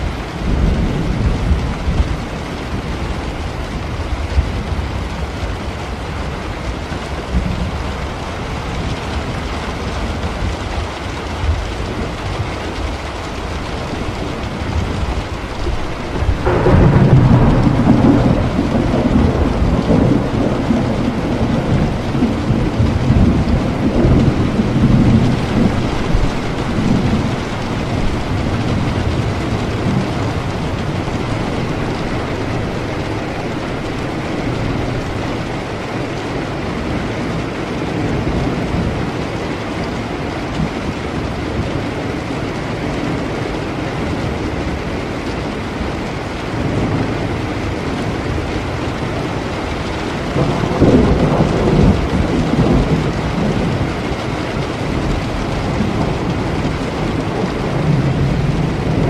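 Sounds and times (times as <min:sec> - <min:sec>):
thunderclap rolling: 0:00.0 - 0:43.4, 0:44.0 - 0:59.0
heavy rain: 0:00.0 - 0:59.0.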